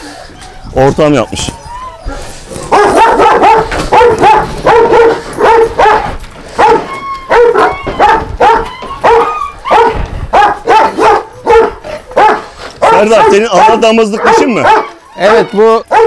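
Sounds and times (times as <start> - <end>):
dog barking loudly: 2.6 - 16.0.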